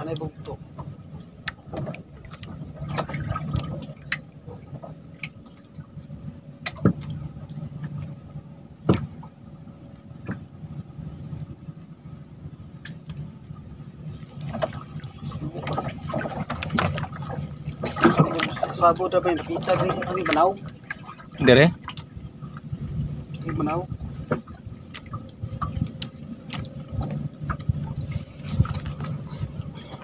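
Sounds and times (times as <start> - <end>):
water sloshing and lapping: 0.0 - 30.0.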